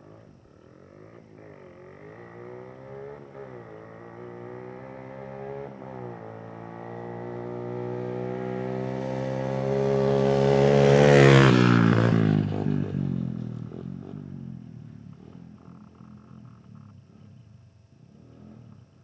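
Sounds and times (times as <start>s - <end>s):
dirt bike engine passing by: 0.0s - 19.0s.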